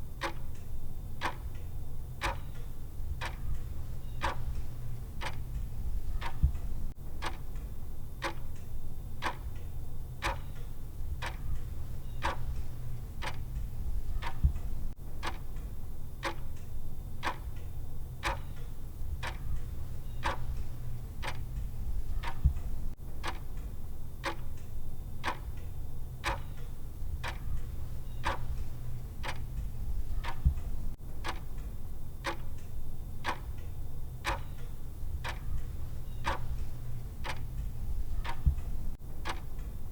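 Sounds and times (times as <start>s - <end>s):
timer ticking: 0.2s - 8.6s, 9.2s - 16.6s, 17.2s - 39.9s.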